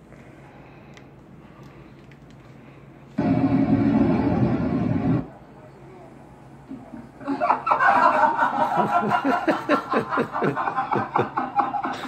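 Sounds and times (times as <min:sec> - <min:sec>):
tv sound: 0:00.0 - 0:12.0.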